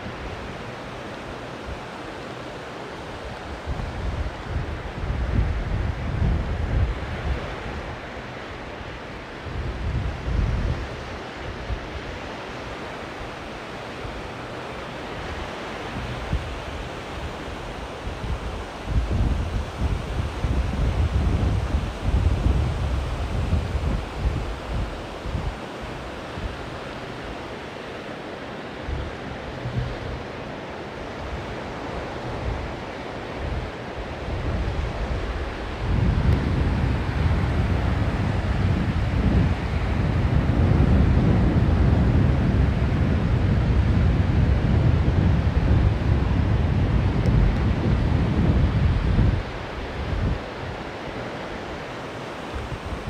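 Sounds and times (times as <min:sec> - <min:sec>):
surf washing on sandy beach: 0:00.0 - 0:53.0
wind buffeting microphone: 0:03.4 - 0:12.1, 0:15.1 - 0:27.2, 0:28.8 - 0:51.0.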